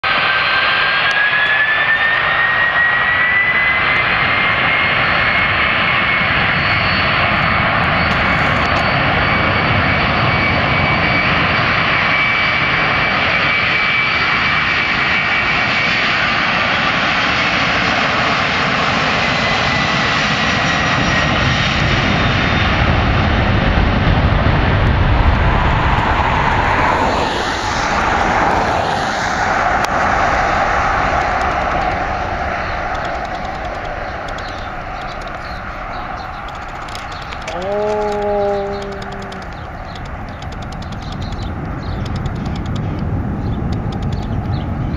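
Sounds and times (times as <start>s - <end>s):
jet engine roar with whine: 0.0s - 44.9s.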